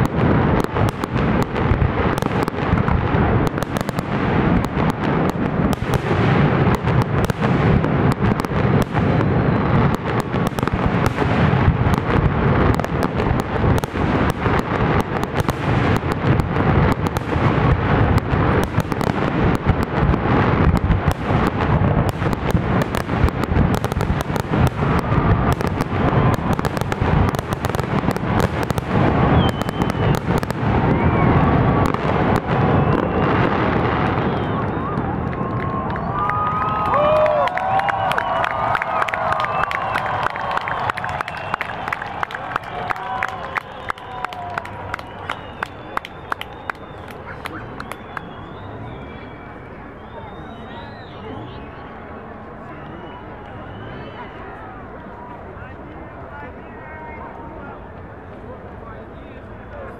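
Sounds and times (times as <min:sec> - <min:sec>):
fireworks booming and cracking: 0:00.0 - 0:48.9.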